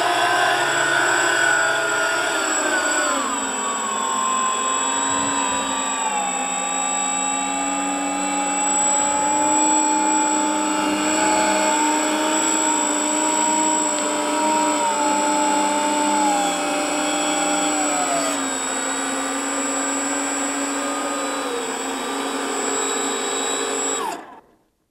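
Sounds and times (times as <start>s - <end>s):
drone propellers whining: 0.0s - 24.4s.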